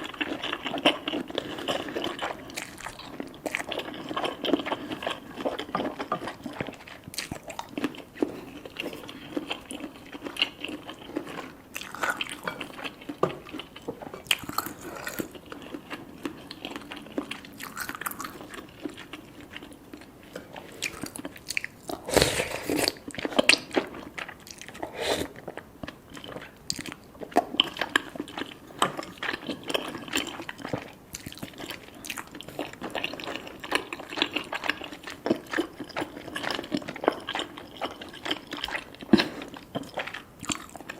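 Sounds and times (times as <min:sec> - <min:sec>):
chewing and biting food: 0:00.0 - 0:40.9.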